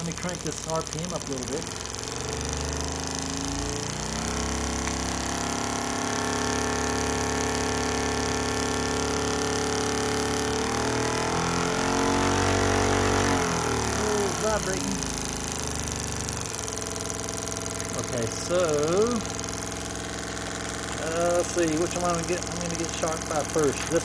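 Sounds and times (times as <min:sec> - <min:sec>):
machine motor hum and whine: 0:00.0 - 0:24.0.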